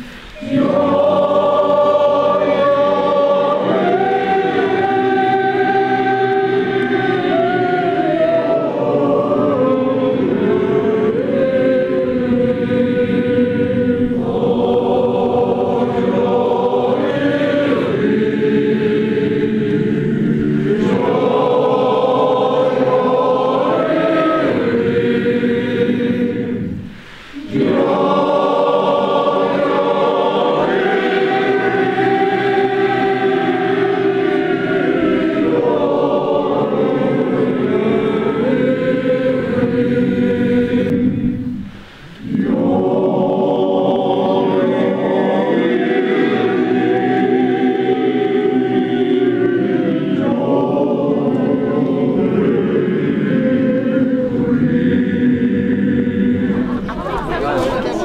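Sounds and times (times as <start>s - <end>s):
men's choir singing: 0.0s - 58.0s.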